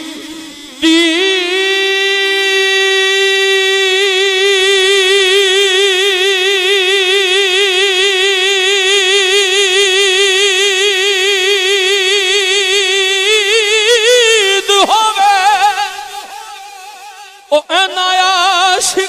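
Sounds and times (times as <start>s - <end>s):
man singing through microphone: 0.0s - 19.0s.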